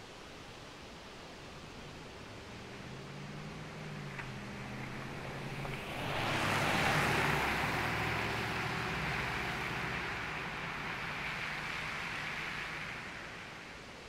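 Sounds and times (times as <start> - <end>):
truck engine driving past: 2.1 - 14.0.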